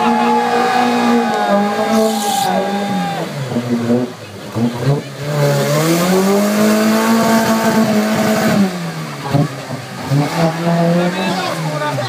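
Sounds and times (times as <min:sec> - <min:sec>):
buggy engine revving hard: 0:00.0 - 0:12.0
vehicle ploughing through mud: 0:00.0 - 0:12.0.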